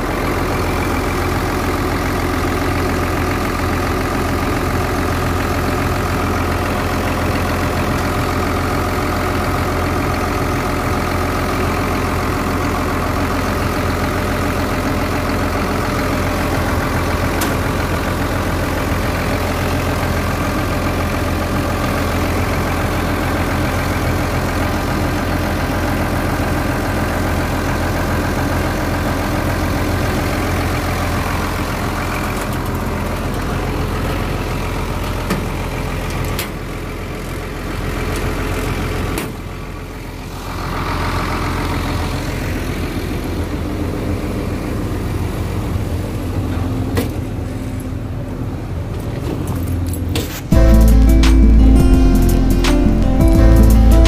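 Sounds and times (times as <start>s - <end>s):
excavator diesel engine idling: 0.0s - 54.0s.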